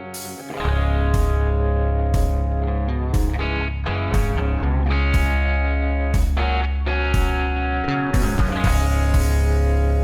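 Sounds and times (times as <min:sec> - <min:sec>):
rock music: 0:00.0 - 0:10.0.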